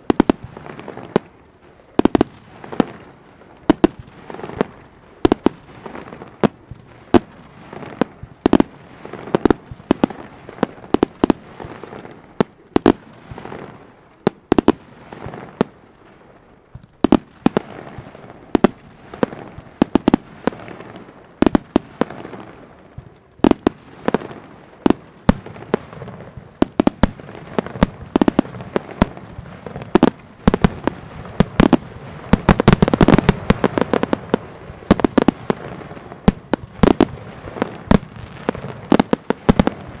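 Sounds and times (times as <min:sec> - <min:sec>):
fireworks bangs with echo: 0:00.0 - 0:40.0.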